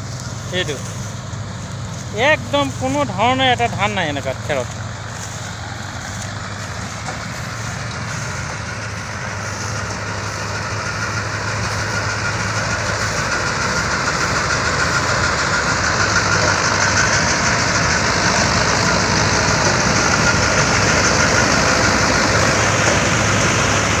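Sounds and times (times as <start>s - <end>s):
harvester mechanical rattle: 0.0s - 24.0s
tractor engine drone: 0.0s - 24.0s.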